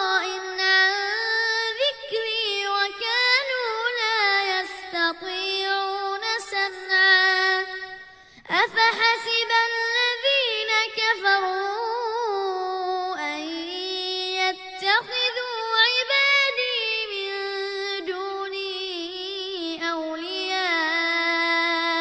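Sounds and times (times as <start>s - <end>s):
child reciting melodically: 0.0s - 7.7s, 8.5s - 22.0s.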